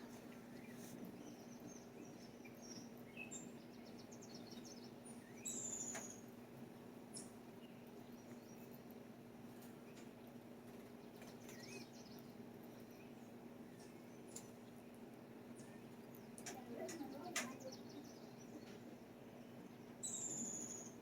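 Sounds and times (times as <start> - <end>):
faint low hum: 0.0 - 21.0
songbirds chirping: 0.0 - 21.0.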